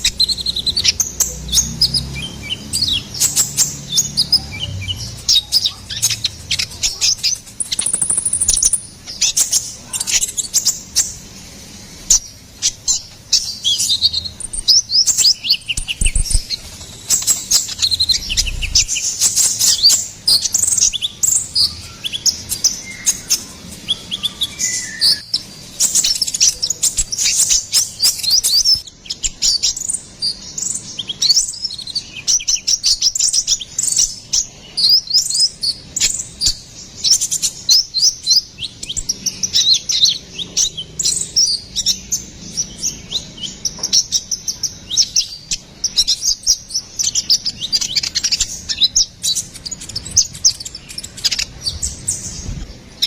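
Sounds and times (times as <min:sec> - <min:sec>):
sunbird twittering: 0:00.0 - 0:53.0.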